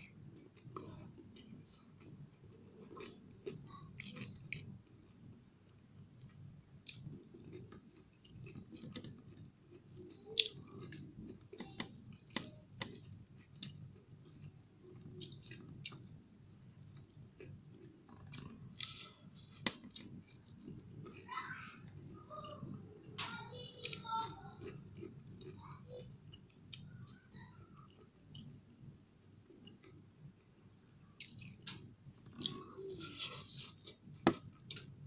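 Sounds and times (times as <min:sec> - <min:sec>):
person chewing food: 0:00.0 - 0:23.1, 0:23.8 - 0:35.0.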